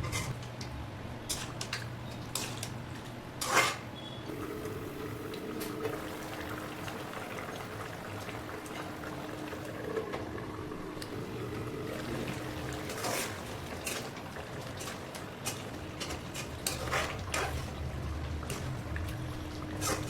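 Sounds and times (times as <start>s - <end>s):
pot boiling and bubbling: 1.3s - 20.0s.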